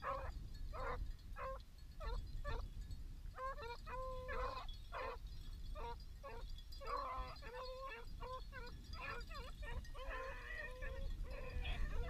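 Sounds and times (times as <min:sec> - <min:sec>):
dogs baying: 0:00.0 - 0:02.6, 0:03.4 - 0:05.2, 0:05.8 - 0:12.0.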